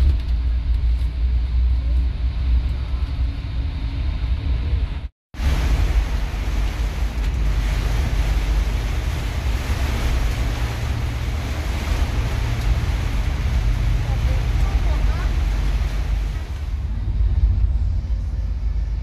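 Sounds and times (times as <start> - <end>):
bus travelling on road: 0.0 - 19.0.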